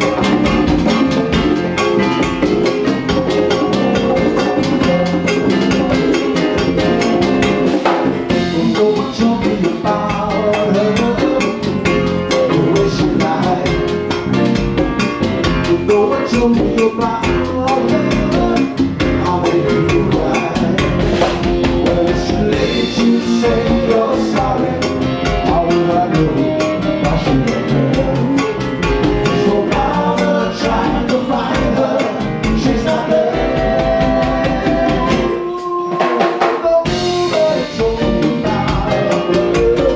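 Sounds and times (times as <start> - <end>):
drum kit and hand percussion: 0.0 - 39.9
latin band playing live: 0.0 - 39.9.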